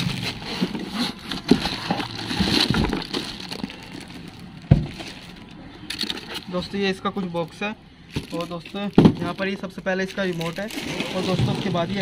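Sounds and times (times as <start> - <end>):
foam packing scraping and creaking: 0.0 - 12.0
plastic wrap crinkling: 0.0 - 12.0.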